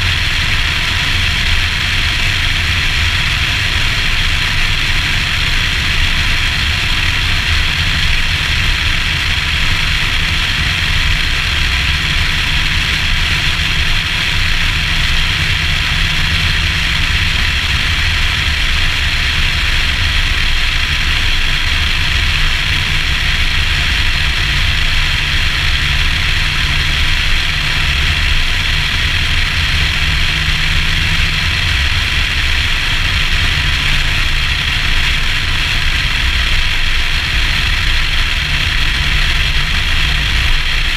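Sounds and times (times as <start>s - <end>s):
low engine drone: 0.0s - 40.9s
wind and road noise: 0.0s - 40.9s.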